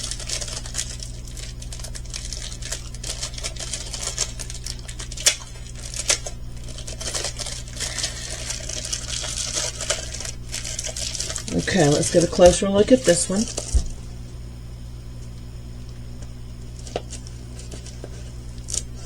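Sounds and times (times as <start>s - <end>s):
plastic bags rustling: 0.0s - 14.3s, 16.7s - 19.0s
steady low hum: 0.0s - 19.0s.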